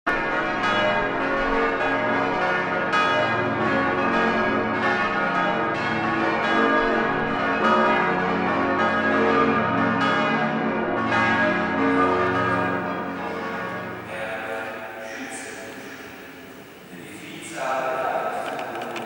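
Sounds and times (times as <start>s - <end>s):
church bells ringing: 0.1s - 19.0s.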